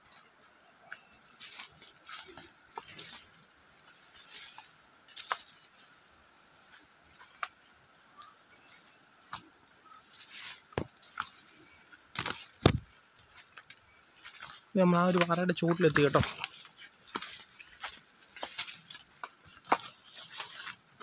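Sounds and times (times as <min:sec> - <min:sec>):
footsteps on leaf litter and twigs: 0:00.0 - 0:21.0
leaves brushing: 0:00.0 - 0:21.0.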